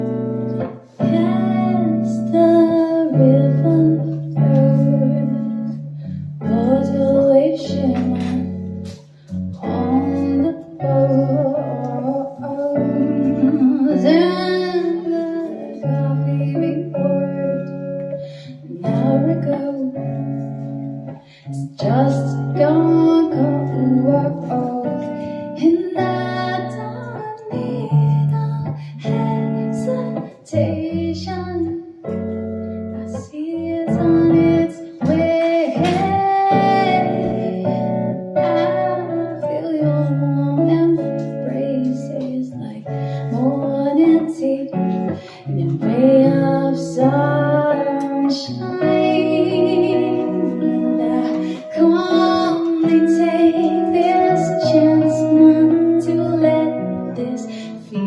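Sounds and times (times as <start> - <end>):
guitar: 0.0 - 58.0
woman singing: 0.0 - 58.0.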